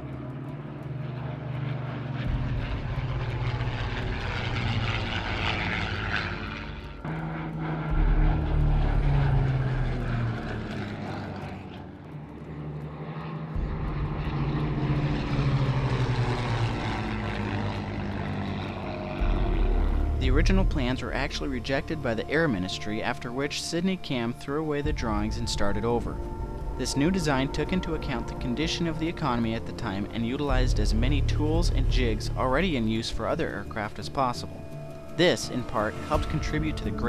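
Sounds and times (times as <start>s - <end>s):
propeller aircraft engine droning: 0.0s - 37.0s.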